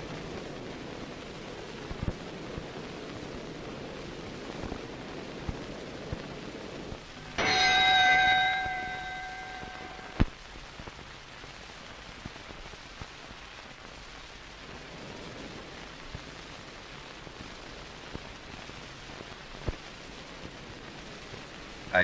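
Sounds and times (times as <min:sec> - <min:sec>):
faint crackle: 0:00.0 - 0:22.0
film soundtrack hiss: 0:00.0 - 0:22.0.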